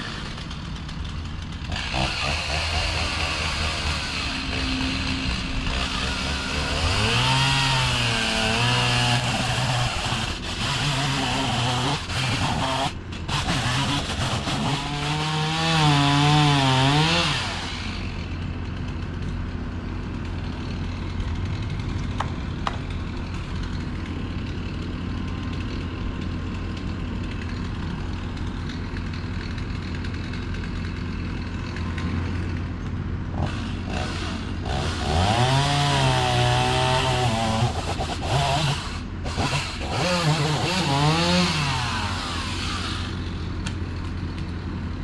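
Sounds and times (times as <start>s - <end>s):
chainsaw cutting wood: 0.0s - 45.0s
chainsaw engine idling: 0.0s - 45.0s.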